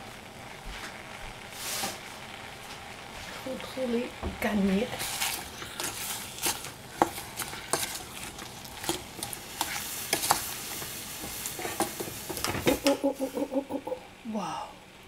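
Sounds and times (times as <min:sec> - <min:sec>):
fruit sizzling: 0:00.0 - 0:14.6.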